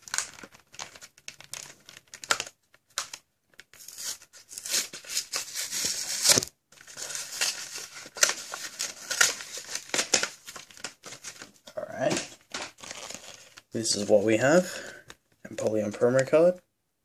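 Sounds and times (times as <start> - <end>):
plastic packaging crinkling and ripping: 0.0 - 14.0.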